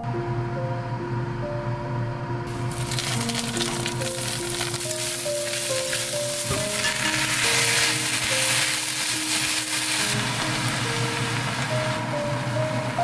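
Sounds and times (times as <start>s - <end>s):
soft background music: 0.0s - 13.0s
food sizzling in oil: 2.5s - 13.0s.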